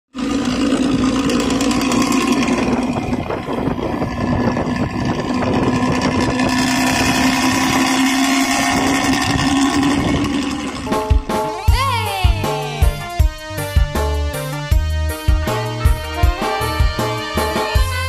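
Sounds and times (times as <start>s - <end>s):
bus engine droning: 0.1s - 18.0s.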